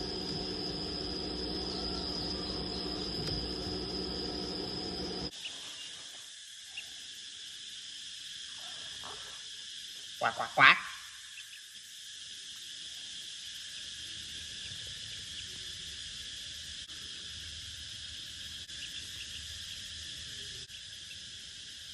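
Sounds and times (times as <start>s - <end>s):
high-pitched insect chorus: 0.0s - 21.9s.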